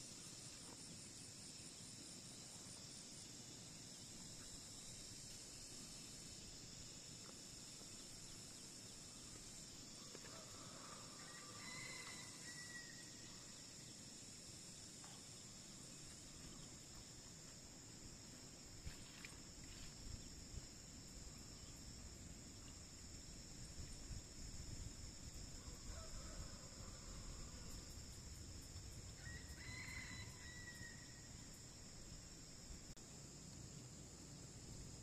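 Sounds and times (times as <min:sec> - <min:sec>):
insect chorus: 0:00.0 - 0:35.0.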